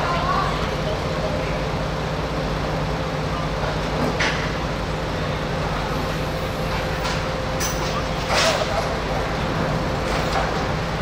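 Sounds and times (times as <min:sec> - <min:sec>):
heavy vehicle engine humming: 0:00.0 - 0:11.0.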